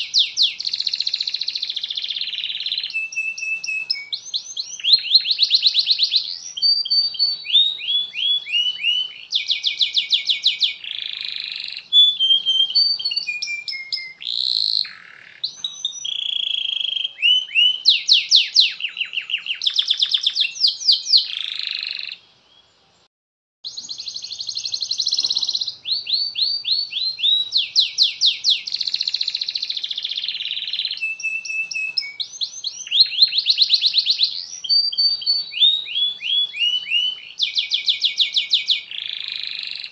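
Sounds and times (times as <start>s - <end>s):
canary singing trills: 0.0s - 22.7s, 23.6s - 39.9s.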